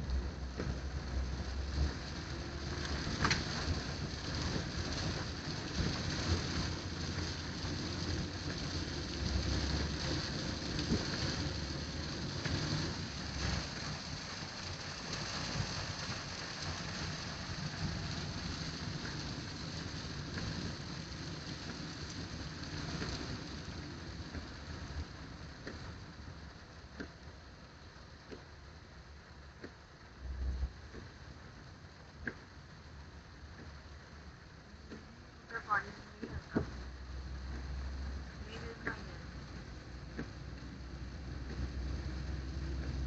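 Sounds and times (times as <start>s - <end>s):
low rumbles: 0.0s - 14.3s, 20.2s - 43.0s
rain falling: 0.0s - 43.0s.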